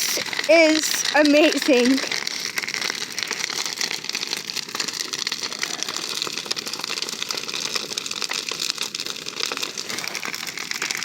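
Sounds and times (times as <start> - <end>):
bonfire crackling and popping: 0.0 - 11.0
fire rushing noise: 0.0 - 11.0.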